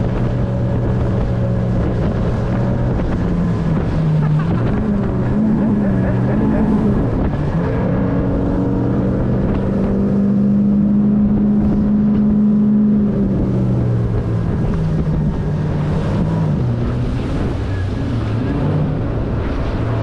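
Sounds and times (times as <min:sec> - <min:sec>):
outboard motor running: 0:00.0 - 0:20.0
wind on microphone: 0:00.0 - 0:20.0.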